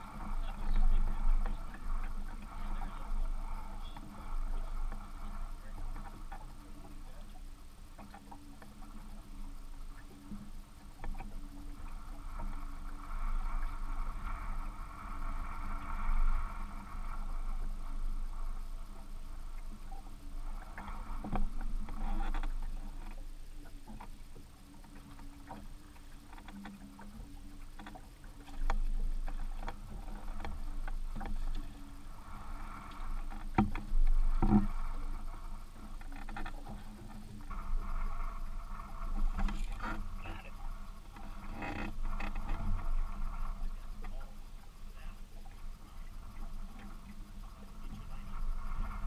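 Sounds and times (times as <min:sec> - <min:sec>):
water lapping against boat hull: 0:00.0 - 0:49.0.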